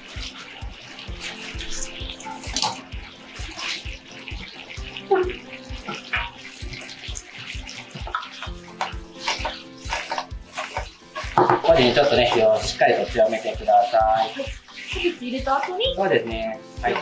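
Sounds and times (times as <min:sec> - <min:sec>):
background music with steady beat: 0:00.0 - 0:17.0
cabbage sizzling in hot oil: 0:00.0 - 0:17.0.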